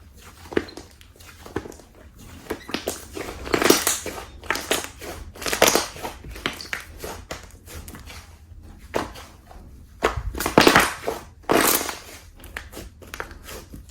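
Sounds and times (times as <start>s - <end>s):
slime squishing: 0.0s - 13.9s.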